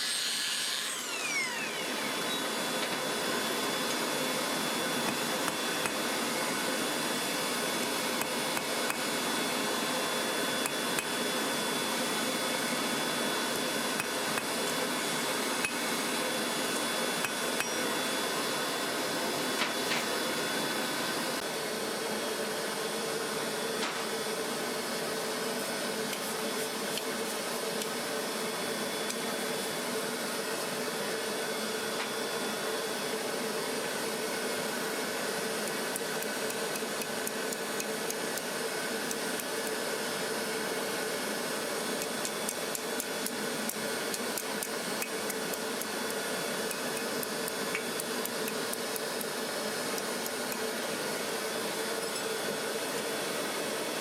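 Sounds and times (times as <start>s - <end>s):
air blower rushing and humming: 0.0s - 54.0s.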